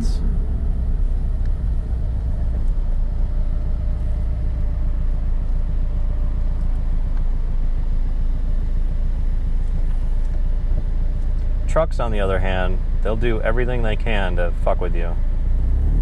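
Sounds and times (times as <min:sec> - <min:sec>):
car engine running through exhaust: 0:00.0 - 0:16.0.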